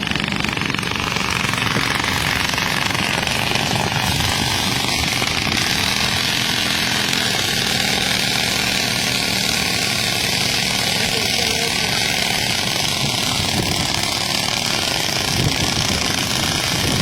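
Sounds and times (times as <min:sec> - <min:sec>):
small motorcycle engine running: 0:00.0 - 0:17.0.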